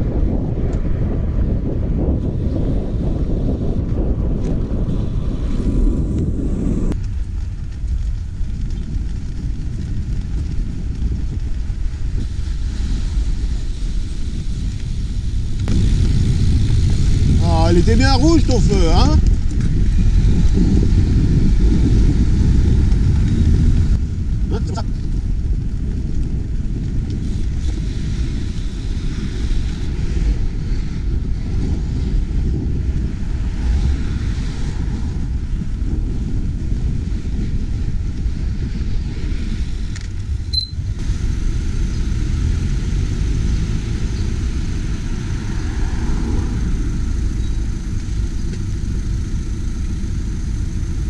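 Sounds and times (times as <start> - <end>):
street traffic: 0.0 - 51.0
wind rumble on microphone: 0.0 - 51.0.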